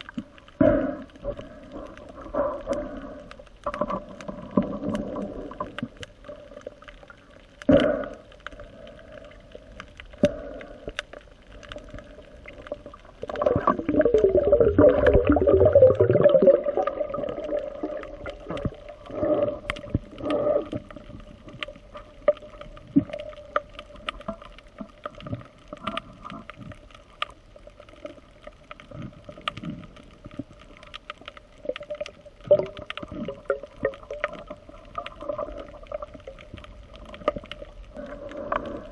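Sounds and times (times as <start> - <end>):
underwater drone: 0.0 - 38.9.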